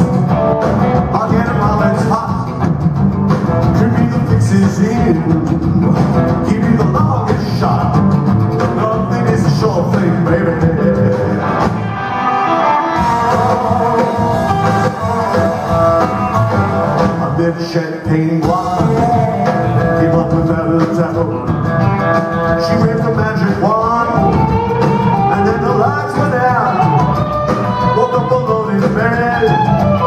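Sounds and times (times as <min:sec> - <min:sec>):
man singing: 0:00.0 - 0:02.7, 0:03.6 - 0:11.7, 0:12.4 - 0:30.0
electric guitar: 0:00.0 - 0:30.0
rock and roll band playing: 0:00.0 - 0:30.0.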